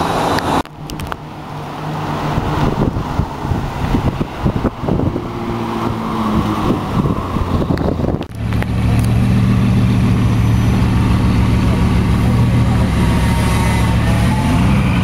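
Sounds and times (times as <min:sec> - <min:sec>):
car engine and exhaust: 0:00.0 - 0:15.0.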